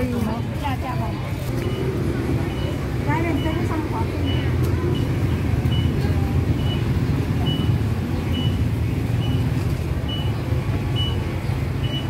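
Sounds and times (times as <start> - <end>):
short high-pitched beeps: 1.6 - 11.2, 11.8 - 12.0.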